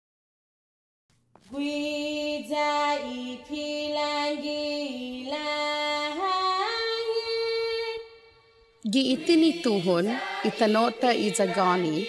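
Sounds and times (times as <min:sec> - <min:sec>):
woman singing unaccompanied chant: 0:01.5 - 0:08.1, 0:08.9 - 0:12.0.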